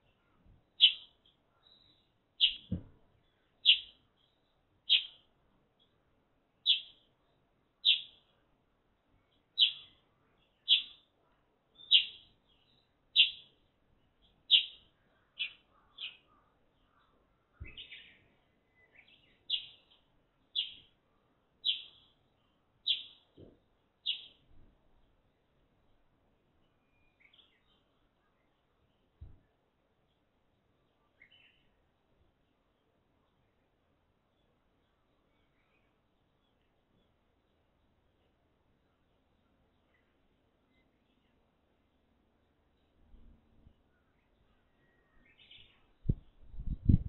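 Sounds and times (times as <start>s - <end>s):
sparrow chirping: 0.0s - 6.0s, 6.6s - 7.1s, 7.8s - 8.4s, 9.2s - 24.6s, 25.4s - 29.2s, 30.0s - 43.0s, 43.7s - 47.0s.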